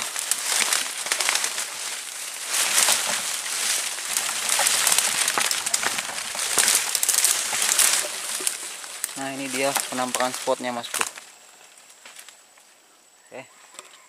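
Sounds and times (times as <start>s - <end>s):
leaves and twigs rustling: 0.0s - 14.0s.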